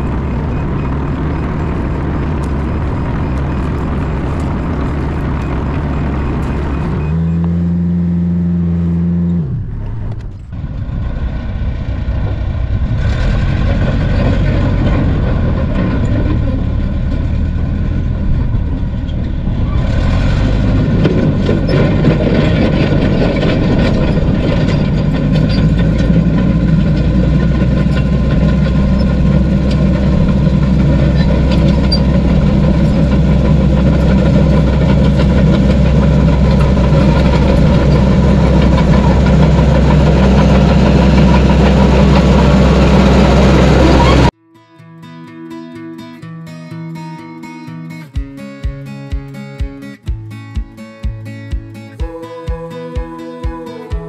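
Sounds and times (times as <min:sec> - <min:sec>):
bulldozer diesel engine: 0:00.0 - 0:44.4
excavator diesel engine: 0:00.0 - 0:44.4, 0:51.0 - 0:54.0.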